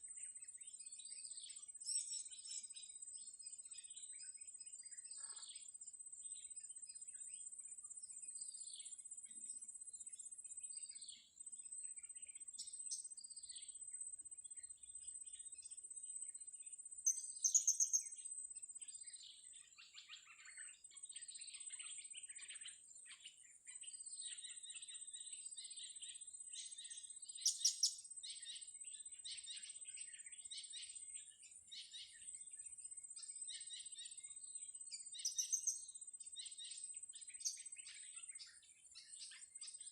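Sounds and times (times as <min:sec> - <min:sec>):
small birds chirping and calling: 0:00.0 - 0:39.9.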